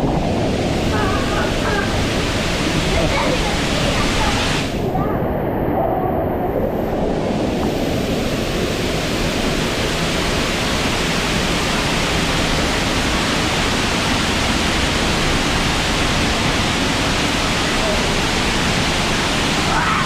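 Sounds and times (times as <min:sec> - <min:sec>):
falling water rushing: 0:00.0 - 0:20.0.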